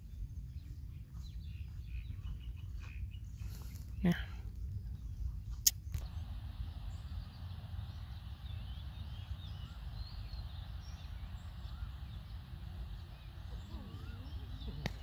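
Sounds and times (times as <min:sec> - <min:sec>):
small birds chirping: 0:00.0 - 0:15.0
wind rumbling on microphone: 0:00.0 - 0:15.0.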